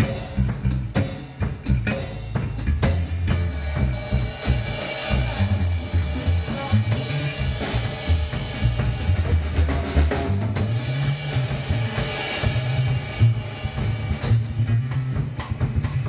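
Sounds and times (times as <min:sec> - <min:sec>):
drum kit: 0:00.0 - 0:16.0
electric bass guitar line: 0:00.0 - 0:16.0
live rock band playing: 0:00.0 - 0:16.0.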